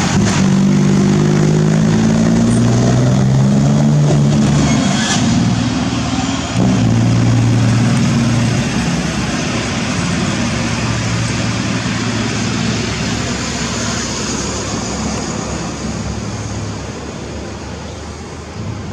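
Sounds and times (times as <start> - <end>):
diesel truck engine rumbling: 0.0 - 18.9.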